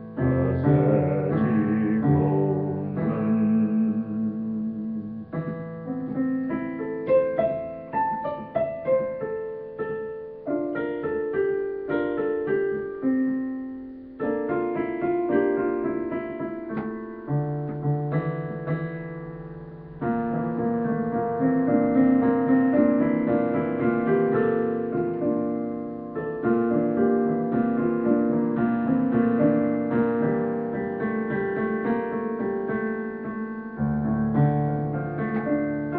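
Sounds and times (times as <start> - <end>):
digital piano melody: 0.0 - 35.9.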